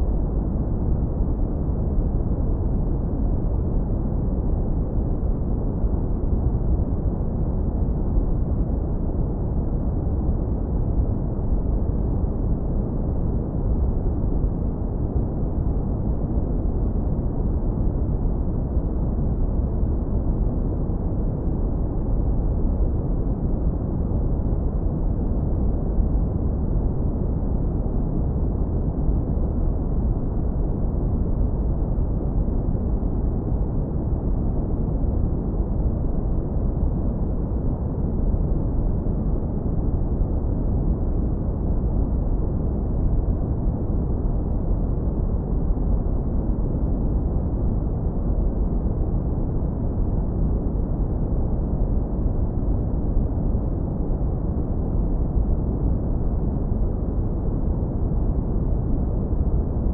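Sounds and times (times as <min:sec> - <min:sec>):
deep brown noise rumble: 0:00.0 - 0:59.9.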